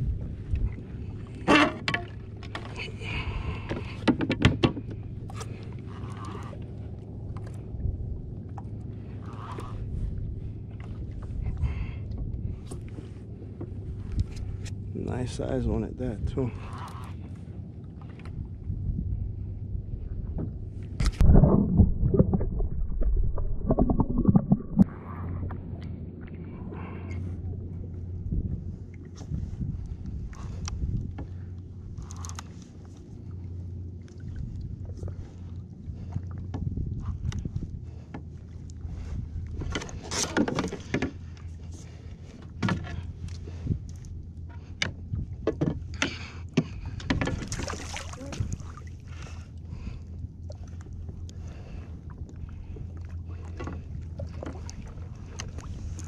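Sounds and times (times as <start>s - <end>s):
muffled underwater rumbling: 0.0s - 4.2s, 4.8s - 56.0s
low hum of water and wind: 0.0s - 56.0s.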